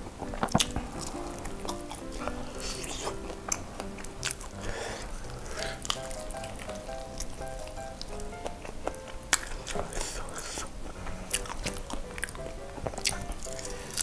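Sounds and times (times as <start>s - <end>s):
soft background music: 0.0s - 14.0s
crunchy chewing of fried chicken: 0.4s - 14.0s.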